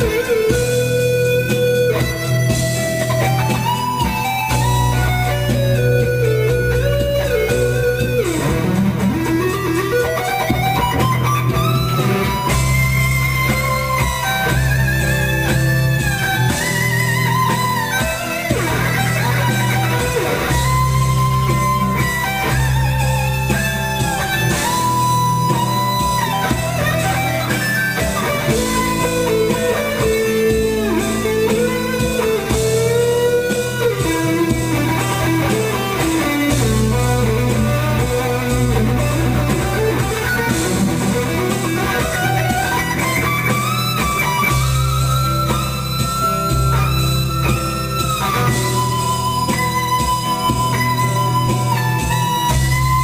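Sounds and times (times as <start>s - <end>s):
guitar-led background music: 0.0s - 53.0s.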